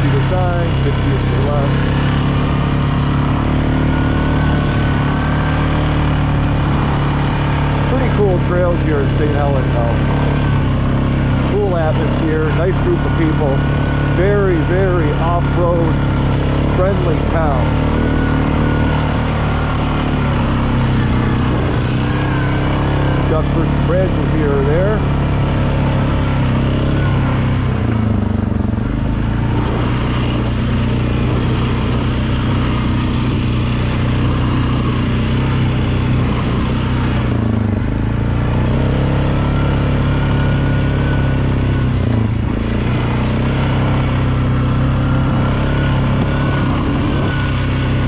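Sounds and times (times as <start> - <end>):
atv engine running: 0.0 - 48.0
steady rushing noise: 0.0 - 48.0.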